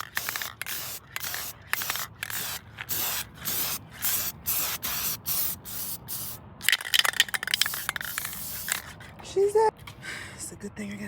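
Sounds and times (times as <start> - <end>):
spray paint can hissing: 0.0 - 9.2.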